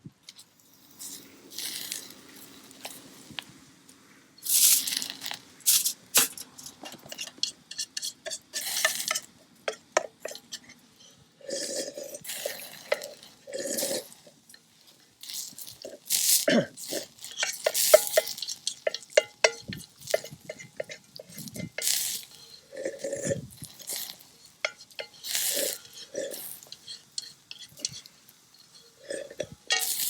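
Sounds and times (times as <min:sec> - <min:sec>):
utensils clinking on metal pot: 0:05.2 - 0:14.7, 0:15.3 - 0:30.0.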